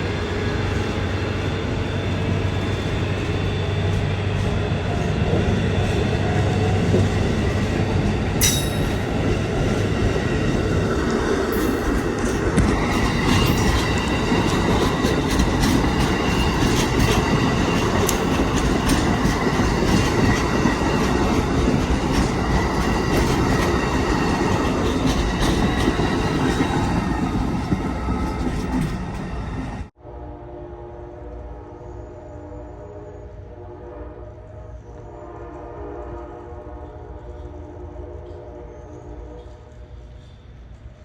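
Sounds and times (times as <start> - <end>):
train wheels rumbling on rail: 0.0 - 30.0, 32.9 - 41.0.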